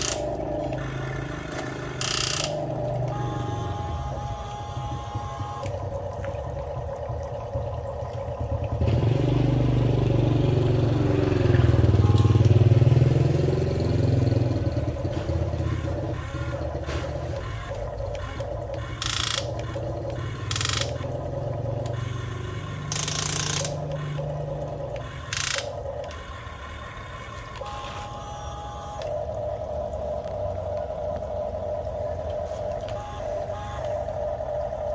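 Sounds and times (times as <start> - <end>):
small electric motors humming: 0.0 - 6.2, 8.8 - 34.9.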